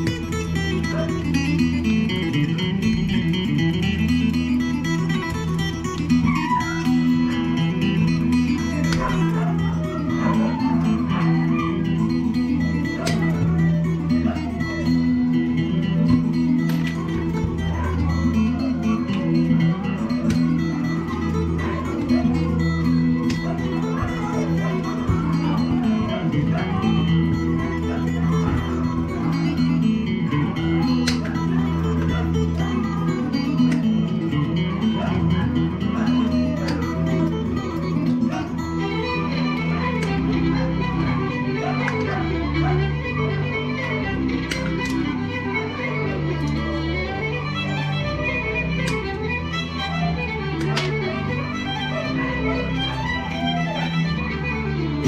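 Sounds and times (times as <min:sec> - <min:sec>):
plucked guitar music: 0:00.0 - 0:55.0
steady bass line: 0:00.0 - 0:55.0.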